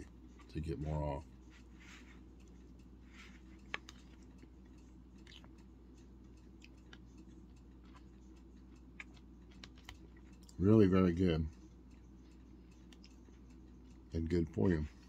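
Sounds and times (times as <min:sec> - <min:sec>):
low steady hum: 0:00.0 - 0:15.0
faint chewing: 0:01.3 - 0:10.6, 0:11.7 - 0:14.8.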